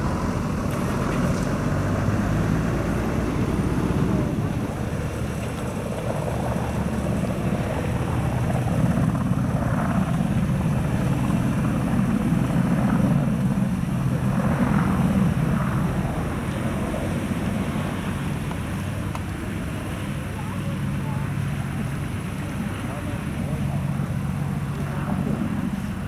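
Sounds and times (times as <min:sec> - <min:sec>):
helicopter flying past: 0:00.0 - 0:26.0.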